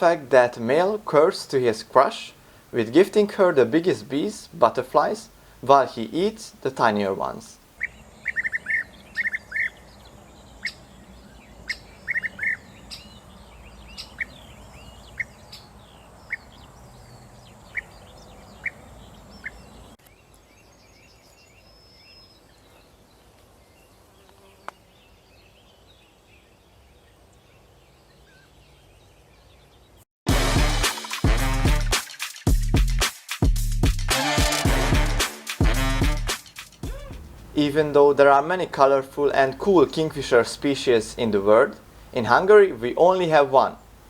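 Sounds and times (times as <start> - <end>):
low steady background noise: 0.0 - 29.6, 37.0 - 44.0
birds calling sharp notes: 2.8 - 30.0, 34.1 - 44.0.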